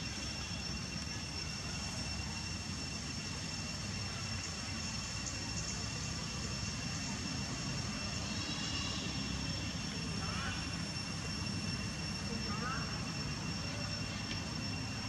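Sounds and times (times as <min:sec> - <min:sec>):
high-pitched whines: 0:00.0 - 0:15.0.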